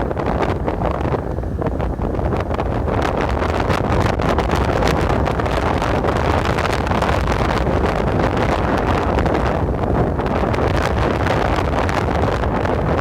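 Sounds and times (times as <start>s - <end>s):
storm wind gusting on microphone: 0.0s - 13.0s.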